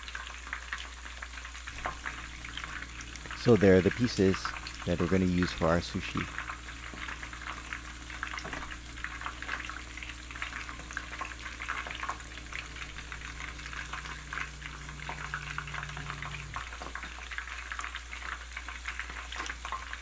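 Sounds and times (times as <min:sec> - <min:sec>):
food crackling and bubbling: 0:00.0 - 0:20.0
low electrical hum: 0:00.0 - 0:20.0.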